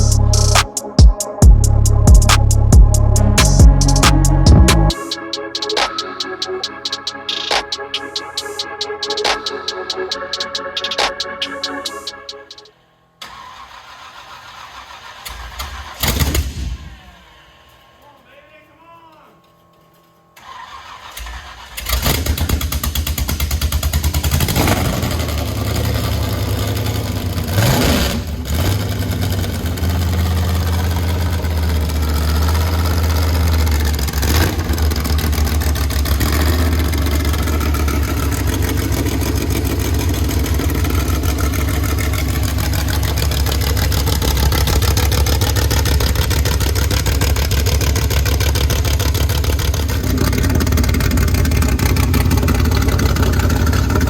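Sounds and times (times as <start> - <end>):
vehicle engine starting and running: 0.0 - 5.9, 7.5 - 18.2, 19.5 - 54.0.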